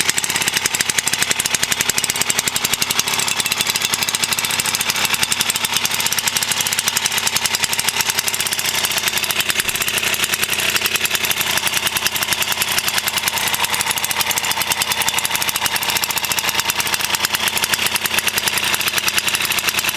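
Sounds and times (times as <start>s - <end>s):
lawnmower engine running: 0.0s - 19.9s.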